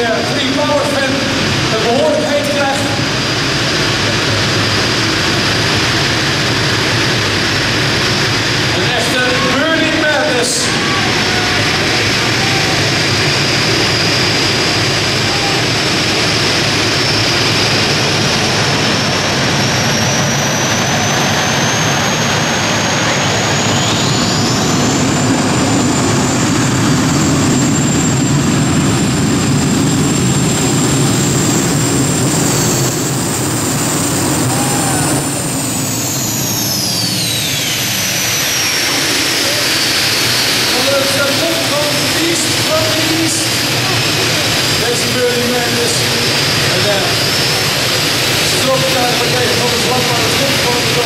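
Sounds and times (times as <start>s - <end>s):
gas turbine jet roar: 0.0s - 51.0s
high turbine whine: 0.0s - 51.0s.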